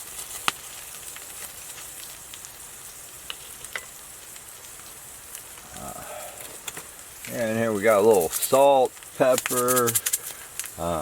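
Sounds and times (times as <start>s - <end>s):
food sizzling in a pan: 0.0s - 11.0s
pops and crackles: 0.0s - 11.0s.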